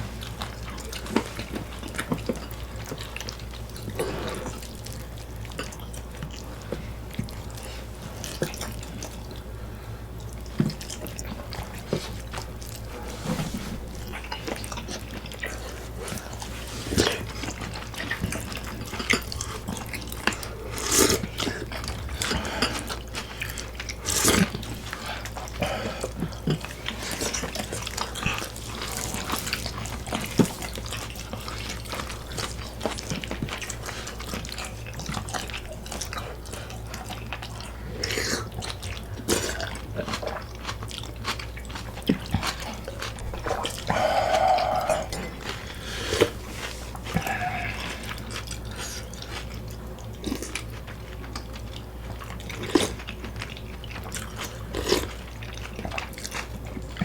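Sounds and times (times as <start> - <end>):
wet chewing and smacking: 0.0 - 57.0.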